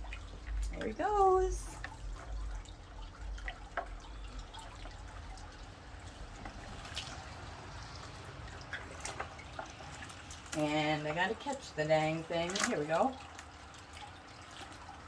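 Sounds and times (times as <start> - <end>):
water dripping and trickling: 0.0 - 15.0.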